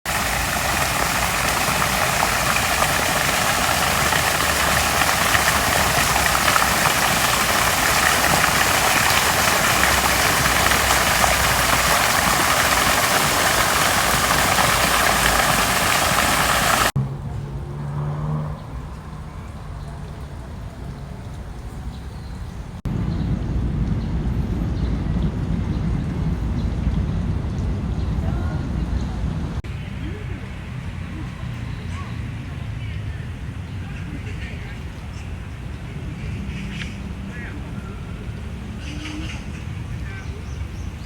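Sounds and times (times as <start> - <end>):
fountain water splashing: 0.0 - 18.0, 18.6 - 23.4, 26.7 - 41.0.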